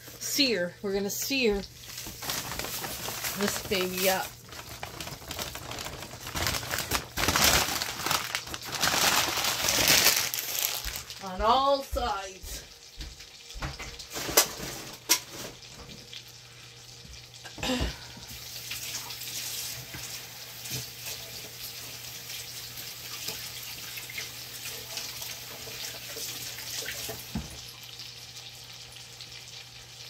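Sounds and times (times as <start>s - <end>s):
meat sizzling and crackling in a pot: 0.0s - 30.0s.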